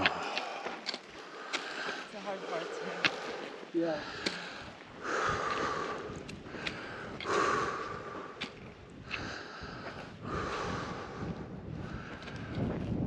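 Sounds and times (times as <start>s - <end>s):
person breathing hard: 0.0s - 12.8s.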